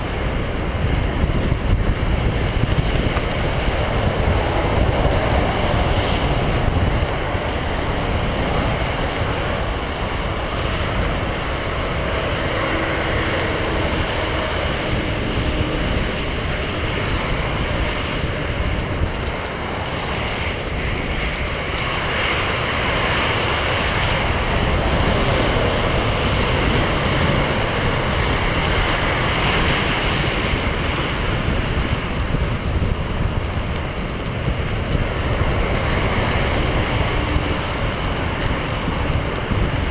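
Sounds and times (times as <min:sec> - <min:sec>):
tyres rolling over gravel: 0:00.0 - 0:39.9
wind on microphone: 0:00.0 - 0:39.9.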